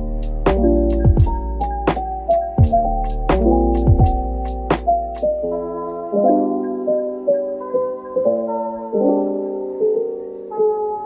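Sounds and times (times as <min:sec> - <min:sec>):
soft keyboard chords: 0:00.0 - 0:11.0.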